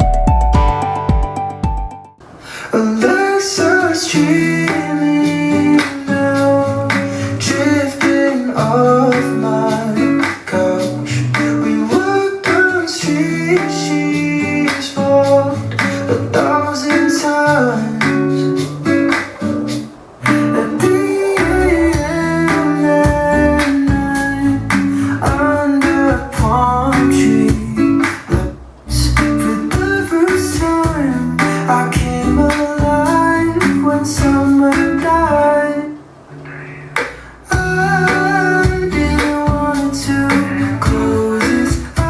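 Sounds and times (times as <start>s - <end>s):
pop song with guitar and singing: 2.4s - 42.0s.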